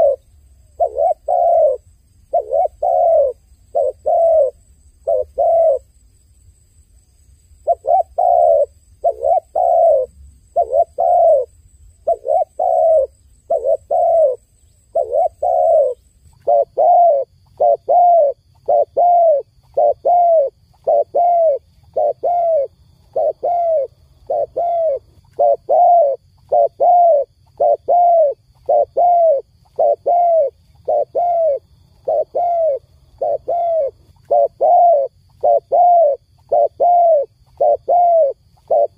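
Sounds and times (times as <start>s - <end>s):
dove cooing: 0.0s - 5.9s, 7.6s - 38.9s.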